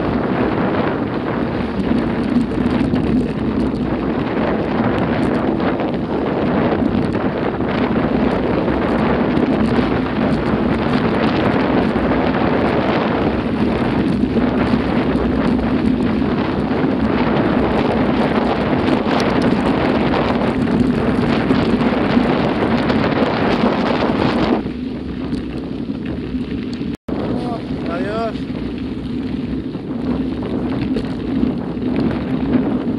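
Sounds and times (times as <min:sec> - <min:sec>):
bike tyres crunching on gravel: 0:00.0 - 0:32.9
wind buffeting microphone: 0:00.0 - 0:32.9.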